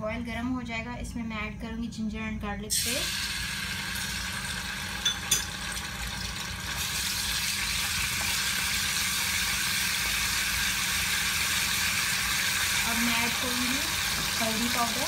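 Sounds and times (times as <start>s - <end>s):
paste sizzling in hot oil: 2.8s - 15.0s.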